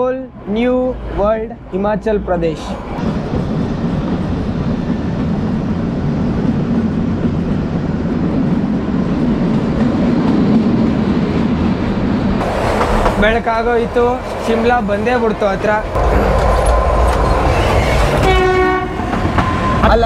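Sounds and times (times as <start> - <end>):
train rumbling in tunnel: 0.0 - 20.0.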